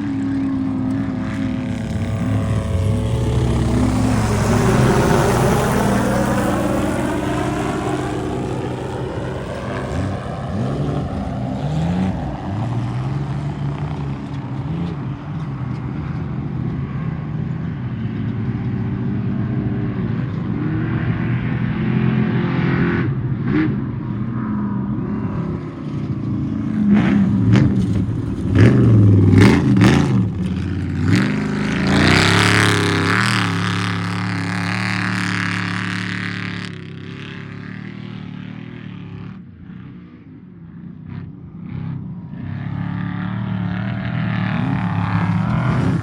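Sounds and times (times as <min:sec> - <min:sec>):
race vehicle engines revving: 0:00.0 - 0:23.9, 0:25.8 - 0:39.4, 0:42.1 - 0:46.0.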